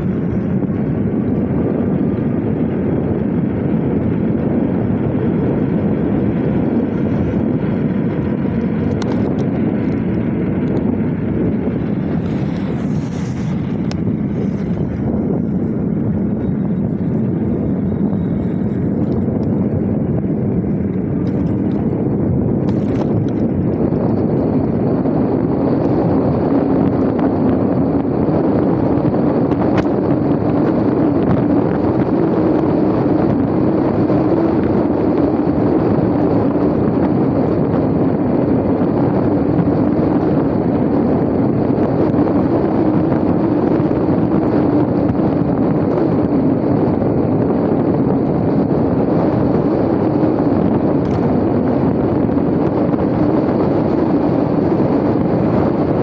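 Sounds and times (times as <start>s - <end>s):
constant low hum: 0.0s - 56.0s
wind rushing over microphone: 0.0s - 56.0s.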